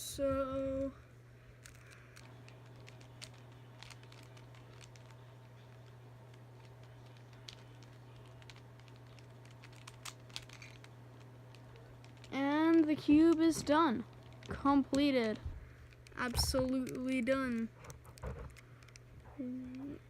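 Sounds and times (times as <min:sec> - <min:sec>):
steady low hum: 0:00.0 - 0:20.0
puzzle cube plastic clicks: 0:01.6 - 0:19.8.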